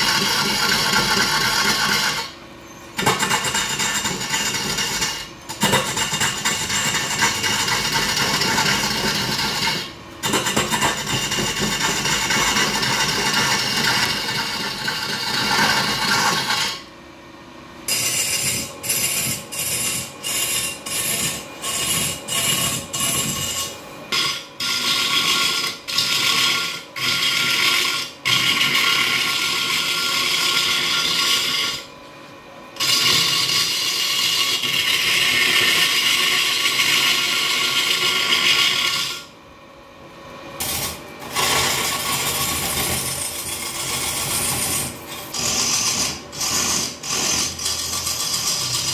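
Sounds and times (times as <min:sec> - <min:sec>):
chisel scraping wood on lathe: 0:00.0 - 0:02.4, 0:03.0 - 0:16.9, 0:17.9 - 0:31.9, 0:32.8 - 0:39.3, 0:40.6 - 0:48.9.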